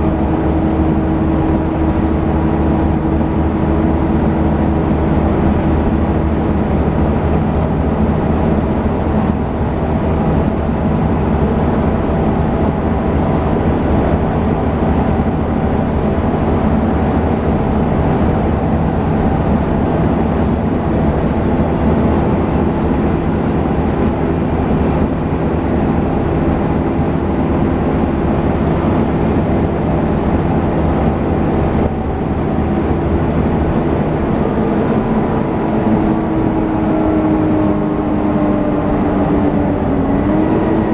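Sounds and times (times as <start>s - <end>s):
bus diesel engine whining: 0.0s - 40.9s.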